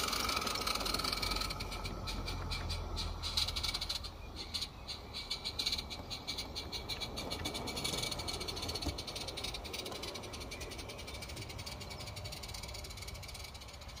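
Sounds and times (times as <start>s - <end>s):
model train clicking on track: 0.0s - 14.0s.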